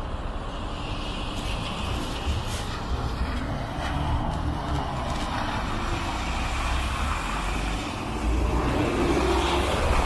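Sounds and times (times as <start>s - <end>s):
bus engine rumbling: 0.0s - 10.0s
road traffic noise: 0.0s - 10.0s.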